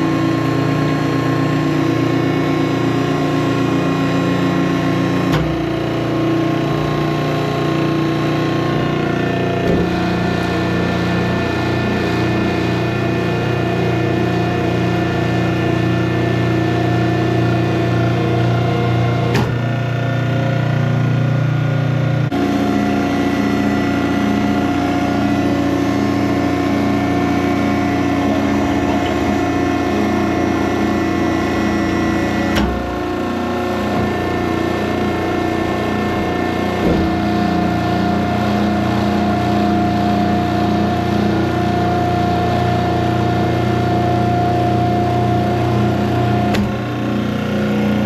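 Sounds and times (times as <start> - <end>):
piston machine humming: 0.0 - 21.4, 22.1 - 48.0.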